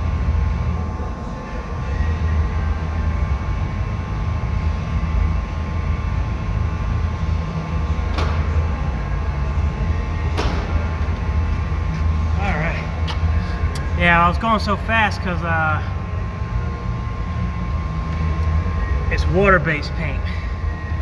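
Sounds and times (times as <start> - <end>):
faint steady whine: 0.0 - 21.0
ventilation fans rumbling: 0.0 - 21.0.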